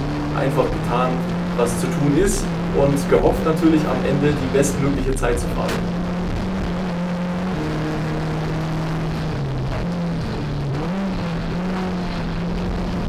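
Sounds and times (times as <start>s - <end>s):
race car engine from inside cabin: 0.0s - 13.0s.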